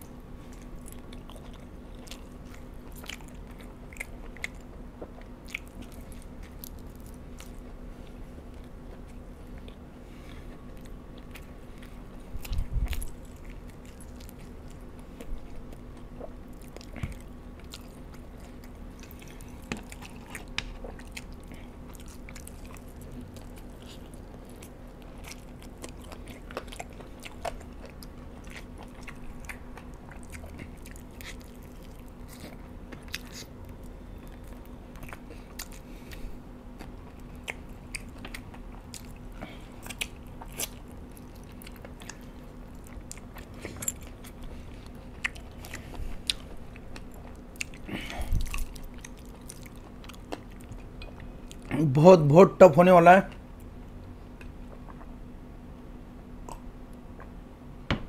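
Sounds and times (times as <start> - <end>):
man chewing chicken wings: 0.0 - 51.8.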